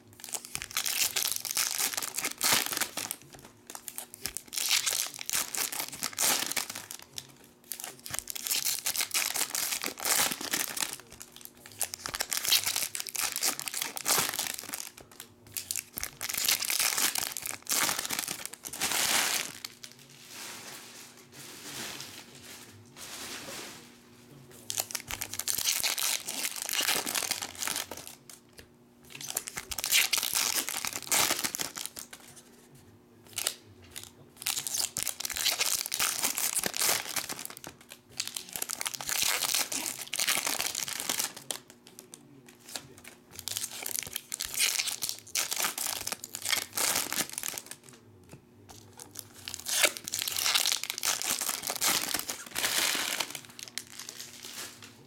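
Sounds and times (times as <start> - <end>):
foil wrappers crinkling: 0.0 - 32.7, 33.3 - 55.0.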